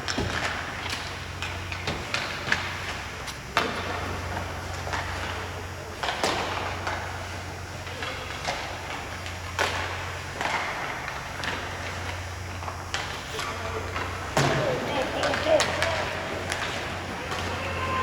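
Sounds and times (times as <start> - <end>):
hockey sticks and puck clacking: 0.0 - 18.0
skate blades scraping ice: 0.0 - 18.0
steady low hum: 0.0 - 18.0.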